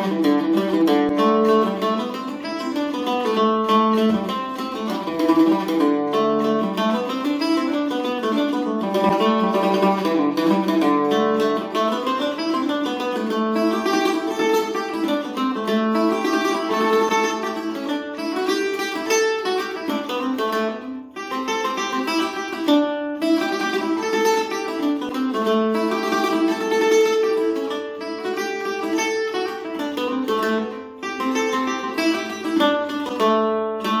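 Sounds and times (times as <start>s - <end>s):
mandolin playing quick reel: 0.0s - 34.0s.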